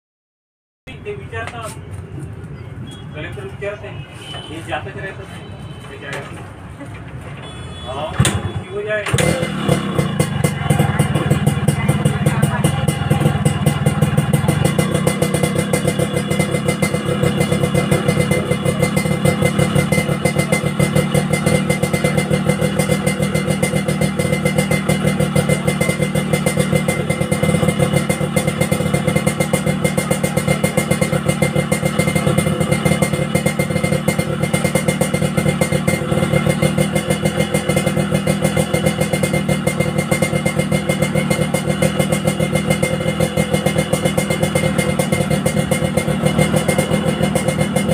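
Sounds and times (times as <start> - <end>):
engine running steadily: 6.9 - 47.9.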